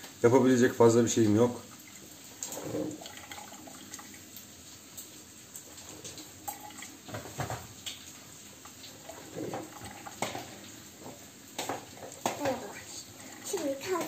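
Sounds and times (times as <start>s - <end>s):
coffee maker gurgling and hissing: 0.0s - 14.0s.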